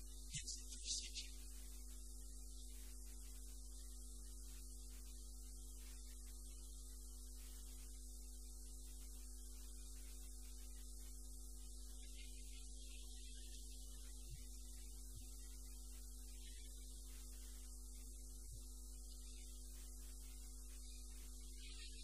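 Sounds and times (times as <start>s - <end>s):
electrical mains hum: 0.0s - 22.0s
faint steady tones: 0.0s - 22.0s
recording hiss: 0.0s - 22.0s.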